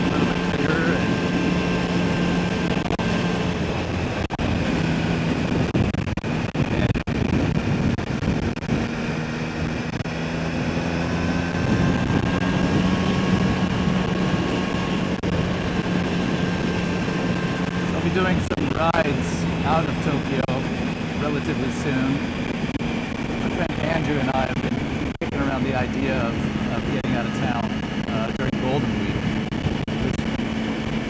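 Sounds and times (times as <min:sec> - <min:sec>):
motorcycle engine running steadily: 0:00.0 - 0:31.0
wind rushing on microphone: 0:00.0 - 0:31.0.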